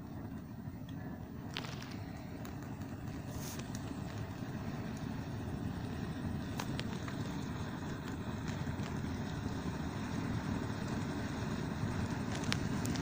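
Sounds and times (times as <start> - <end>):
bonfire rumbling: 0.0 - 13.0
fire crackles: 0.0 - 13.0.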